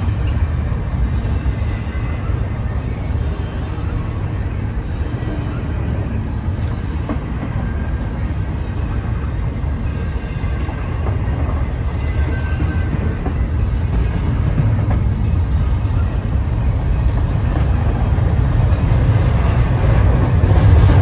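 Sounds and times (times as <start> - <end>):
freight train rumbling past: 0.0 - 21.0
wind buffeting microphone: 0.0 - 21.0.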